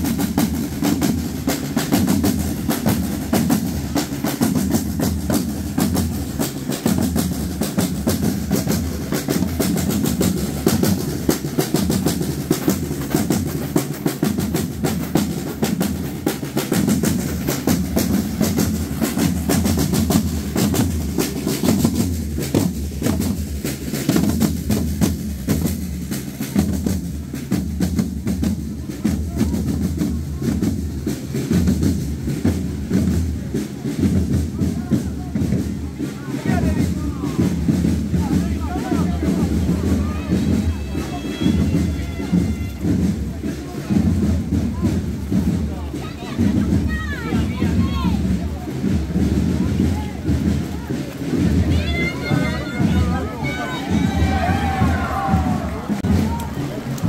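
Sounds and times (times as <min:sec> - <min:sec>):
processional drums beating: 0:00.0 - 0:57.0
snare drum rolls: 0:00.0 - 0:57.0.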